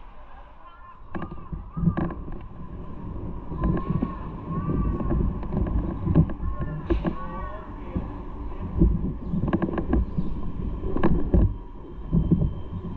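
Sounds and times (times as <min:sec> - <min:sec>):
motorcycle engine rumbling: 0:00.0 - 0:12.9
wind buffeting microphone: 0:00.0 - 0:12.9.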